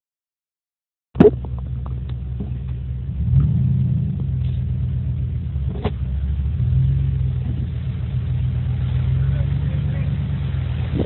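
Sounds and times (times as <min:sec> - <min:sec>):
pickup truck engine accelerating: 0:01.3 - 0:11.0.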